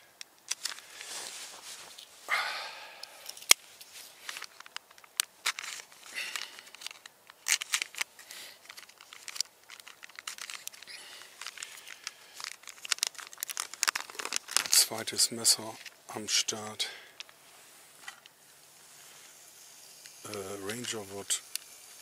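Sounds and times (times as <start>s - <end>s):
plastic packaging crinkling and tearing: 0.4s - 2.2s, 3.2s - 17.3s, 17.9s - 22.0s.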